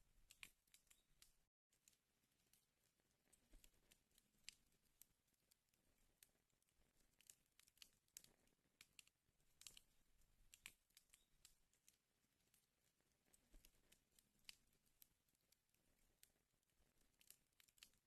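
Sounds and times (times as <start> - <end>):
wood fire crackling: 0.0 - 18.0
fire popping and snapping: 0.2 - 18.0.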